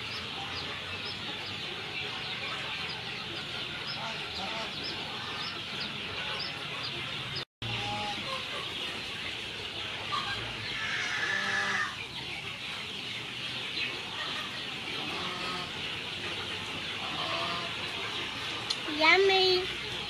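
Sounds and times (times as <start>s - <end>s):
chickens clucking: 0.0s - 20.0s
high chirping chorus: 0.0s - 20.0s.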